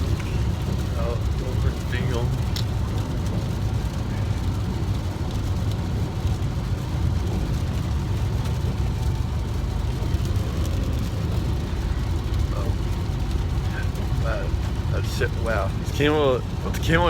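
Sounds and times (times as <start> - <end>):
car road and engine rumble: 0.0 - 17.0
rain hissing on car: 0.0 - 17.0.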